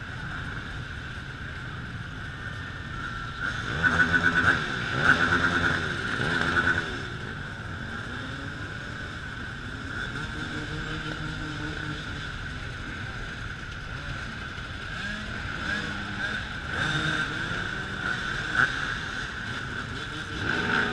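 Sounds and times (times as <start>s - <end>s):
many dirt bike engines: 0.0s - 20.9s.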